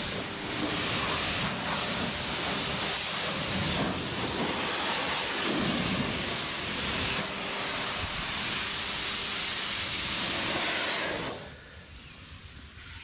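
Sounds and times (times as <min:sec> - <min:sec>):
pressure washer spraying: 0:00.0 - 0:11.6.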